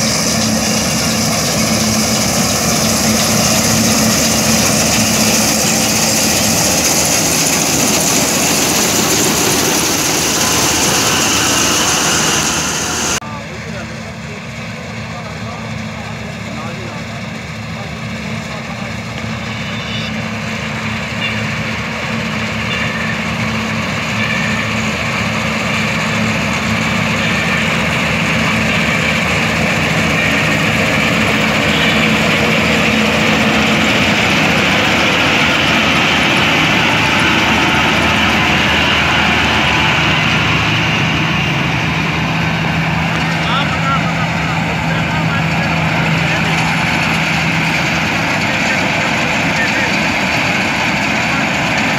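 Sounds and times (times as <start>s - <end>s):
combine harvester diesel engine hum: 0.0s - 51.9s.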